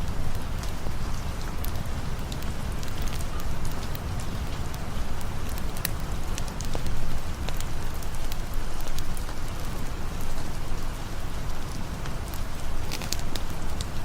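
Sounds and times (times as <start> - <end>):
campfire crackling: 0.0 - 14.0
steady rain falling: 0.0 - 14.0.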